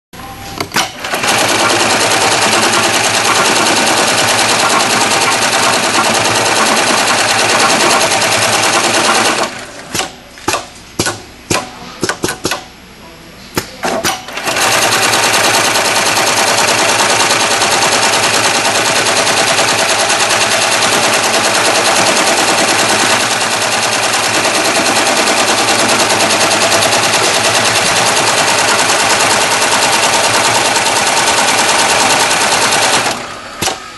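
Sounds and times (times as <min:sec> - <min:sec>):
sewing machine stitching: 0:00.8 - 0:10.0, 0:14.1 - 0:33.8.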